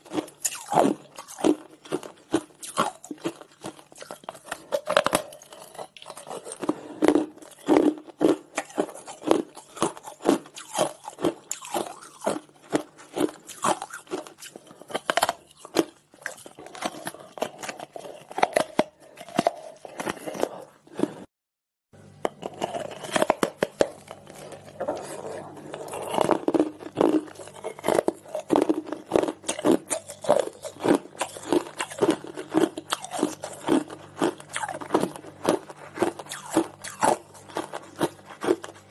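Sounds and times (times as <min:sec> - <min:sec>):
crunching hard ice: 0:00.0 - 0:21.1, 0:22.3 - 0:38.8.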